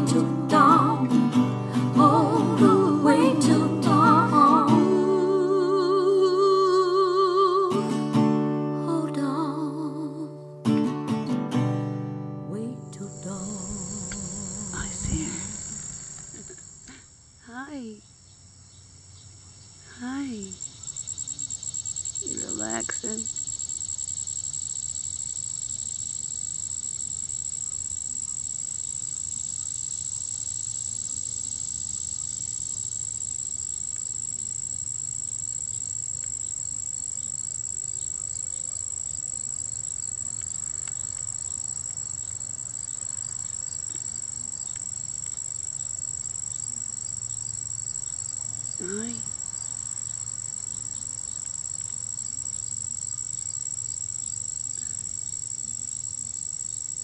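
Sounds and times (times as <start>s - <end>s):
insects trilling: 0.0s - 10.1s, 12.8s - 57.0s.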